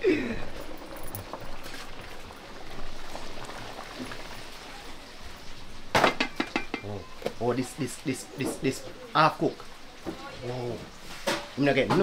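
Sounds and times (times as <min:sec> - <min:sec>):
faint crackles: 0:00.0 - 0:11.6
food cooking hiss: 0:00.0 - 0:12.0.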